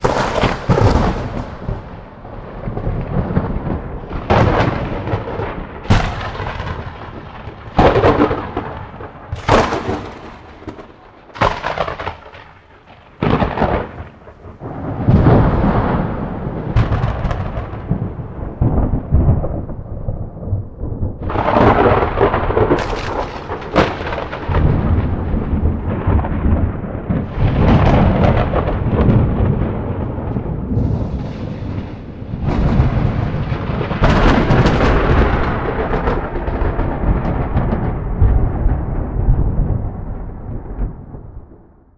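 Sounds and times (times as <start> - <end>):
thunder cracks and rumble: 0.0 - 41.9.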